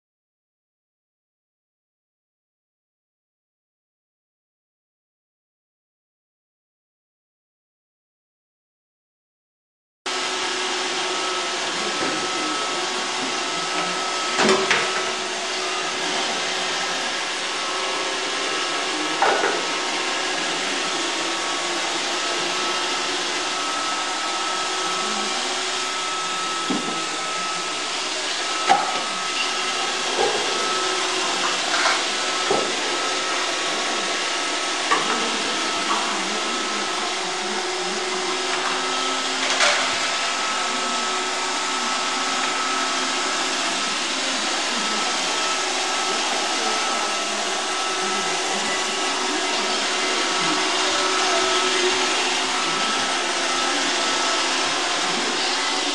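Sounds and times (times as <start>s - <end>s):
robot vacuum whirring: 10.2s - 55.9s.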